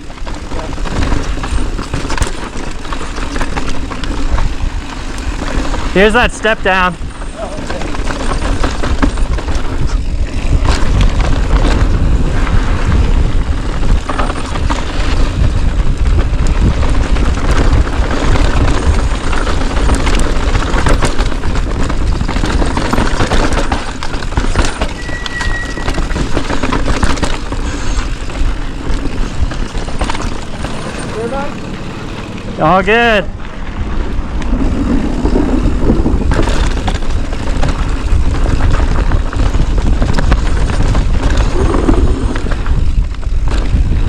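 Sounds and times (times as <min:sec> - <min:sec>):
bike rattling over rocks: 0:00.0 - 0:44.0
wind buffeting microphone: 0:00.0 - 0:44.0.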